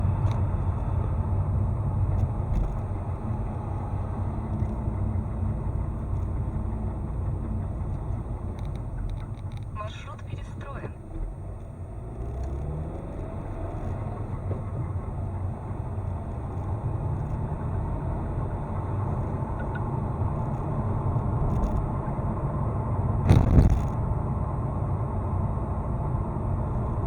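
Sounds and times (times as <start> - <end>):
car engine hum under acceleration: 0.0 - 27.0.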